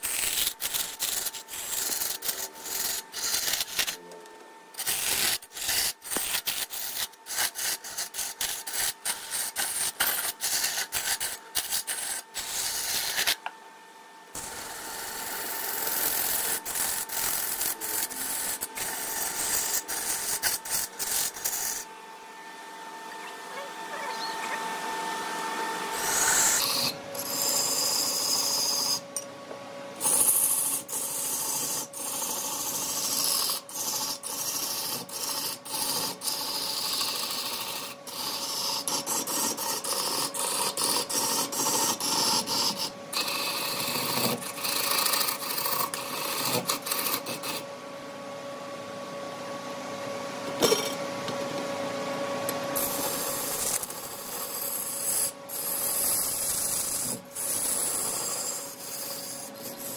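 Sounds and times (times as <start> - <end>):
tool shaving spinning wood: 0.0 - 4.0, 4.8 - 13.5, 14.4 - 21.9, 25.8 - 29.0, 30.0 - 47.7, 52.7 - 59.9
steady hum: 0.0 - 59.9.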